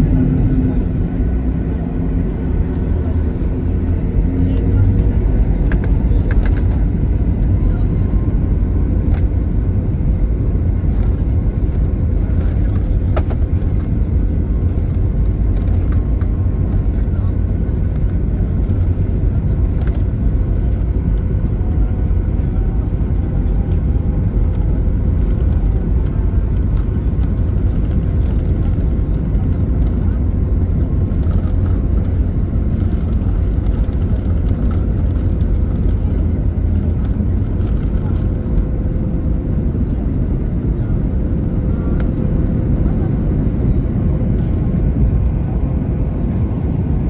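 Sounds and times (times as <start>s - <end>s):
jet engine cabin rumble: 0.0s - 47.0s.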